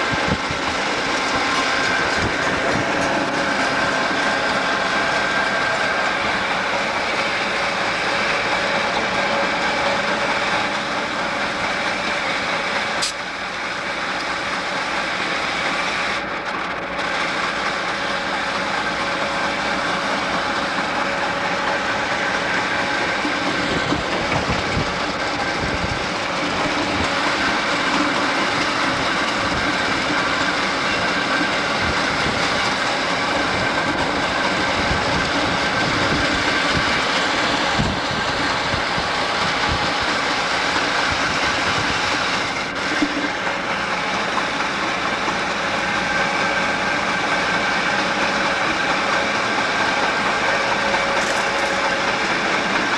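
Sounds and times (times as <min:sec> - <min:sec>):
diesel locomotives running: 0:00.0 - 0:52.9
wheels rolling over rails: 0:00.0 - 0:52.9.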